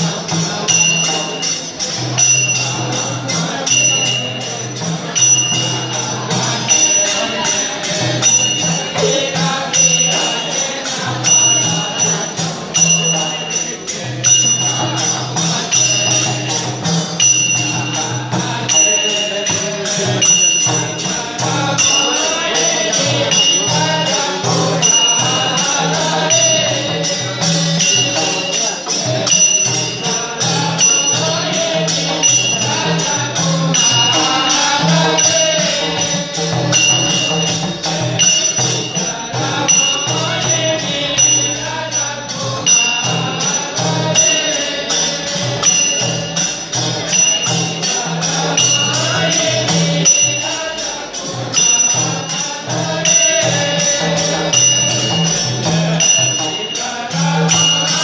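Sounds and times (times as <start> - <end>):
group of voices singing: 0.0 - 58.0
hand cymbals ringing: 0.0 - 58.0.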